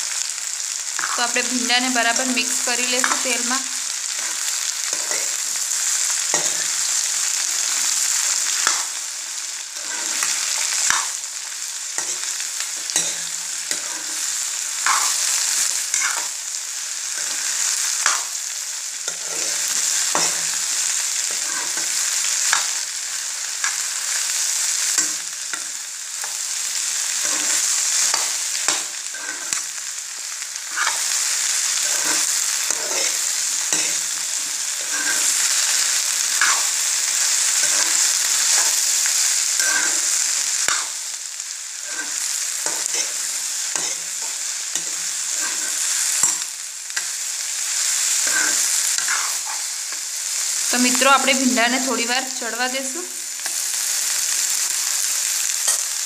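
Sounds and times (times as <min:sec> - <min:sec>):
okra sizzling in hot oil: 0:00.0 - 0:56.0
metal spoon scraping a pan: 0:01.0 - 0:05.4, 0:06.2 - 0:09.0, 0:09.8 - 0:16.4, 0:17.0 - 0:18.4, 0:19.0 - 0:22.8, 0:23.4 - 0:41.0, 0:41.8 - 0:51.7, 0:54.9 - 0:56.0.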